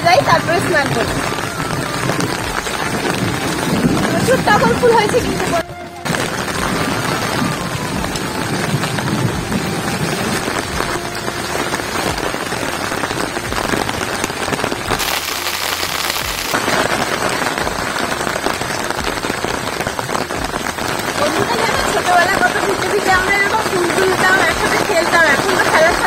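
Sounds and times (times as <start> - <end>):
heavy rain on leaves: 0.0 - 26.0.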